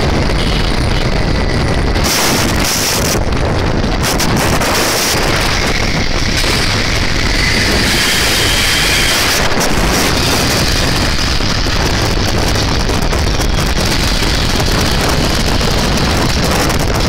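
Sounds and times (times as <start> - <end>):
motorcycle and road rush: 0.0 - 17.0
wind buffeting microphone: 0.0 - 17.0.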